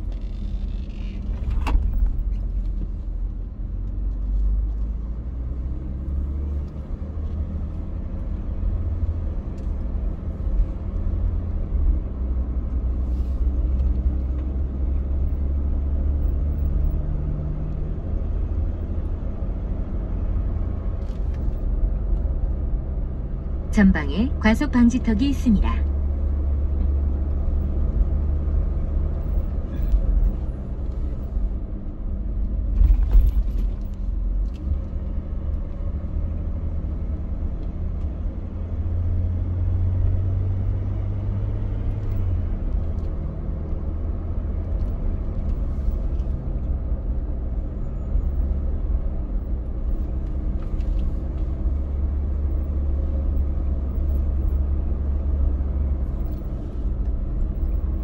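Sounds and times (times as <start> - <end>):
engine and tyres rumble: 0.0 - 58.0.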